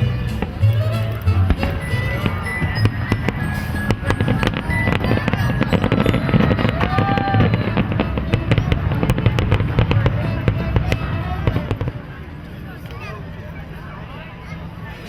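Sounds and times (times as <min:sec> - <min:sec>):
music playing: 0:00.0 - 0:12.2.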